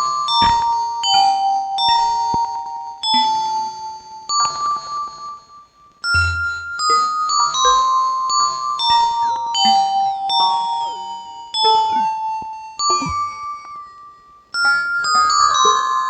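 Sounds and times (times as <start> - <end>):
keyboard playing bell-like notes: 0.0 - 16.0.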